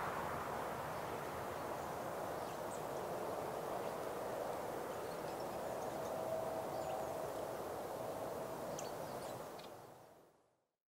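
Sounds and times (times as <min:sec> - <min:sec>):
low rushing background: 0:00.0 - 0:09.0.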